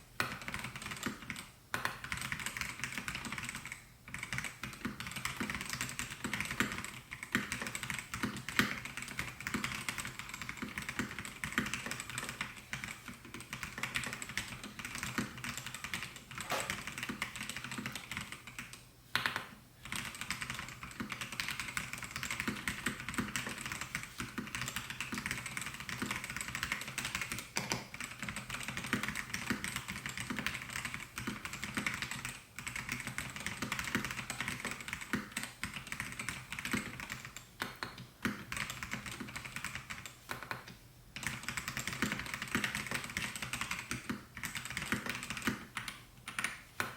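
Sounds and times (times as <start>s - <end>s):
mechanical keyboard typing: 0.2s - 46.9s.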